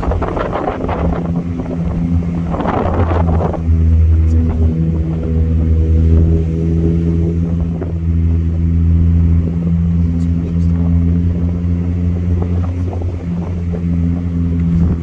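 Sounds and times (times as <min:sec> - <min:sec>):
car engine running: 0:00.0 - 0:15.0
wind or road noise: 0:00.0 - 0:15.0.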